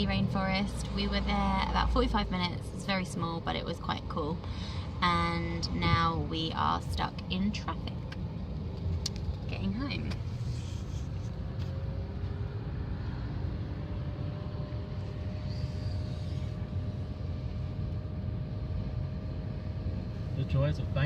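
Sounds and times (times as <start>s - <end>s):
car engine and road rumble: 0.0s - 21.0s
faint constant hum: 0.0s - 21.0s.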